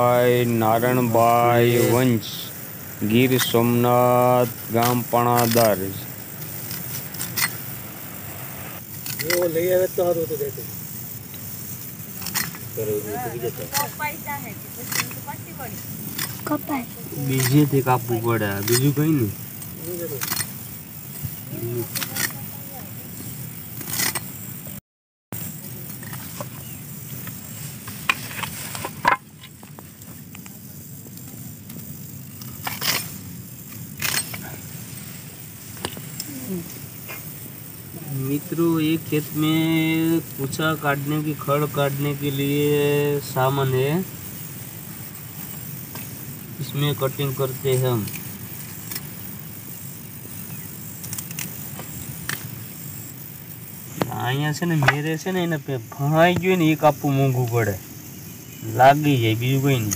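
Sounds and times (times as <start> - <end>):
rustling: 0.0 - 24.5, 25.4 - 59.9.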